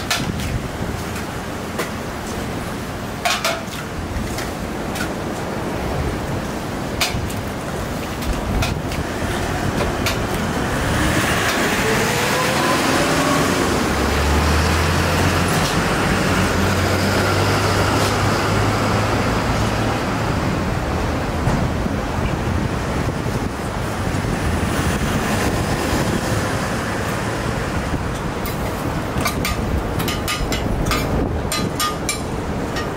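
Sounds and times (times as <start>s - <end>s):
vehicle engine hum: 0.0s - 32.9s.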